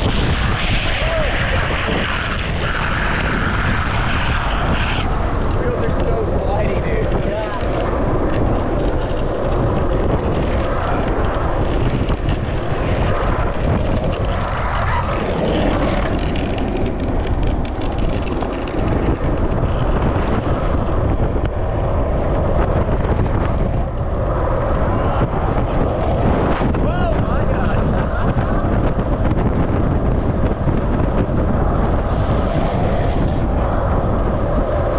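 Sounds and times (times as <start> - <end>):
longboard wheels rolling on asphalt: 0.0 - 34.9
wind buffeting microphone: 0.0 - 34.9.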